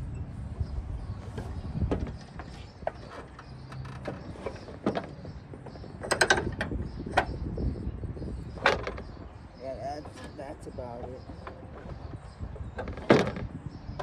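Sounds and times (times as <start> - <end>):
metal clicks and creaks: 1.1 - 7.6, 8.4 - 14.0.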